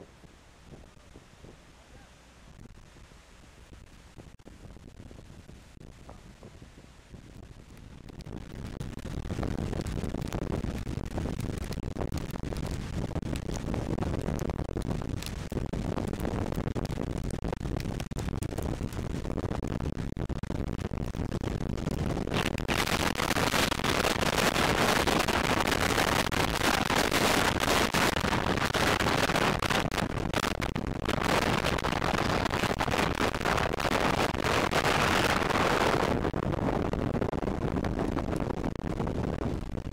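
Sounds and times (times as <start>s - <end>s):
wind gusting across microphone: 0.0s - 39.9s.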